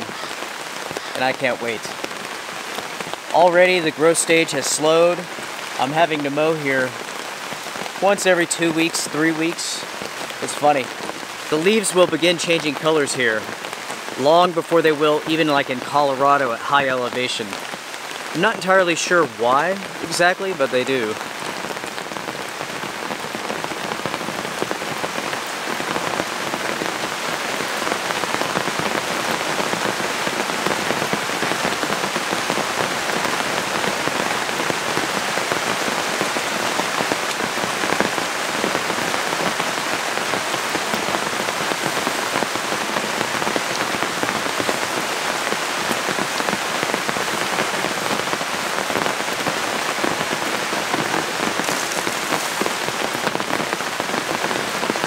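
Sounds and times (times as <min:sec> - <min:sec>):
rain on a tent: 0:00.0 - 0:55.0.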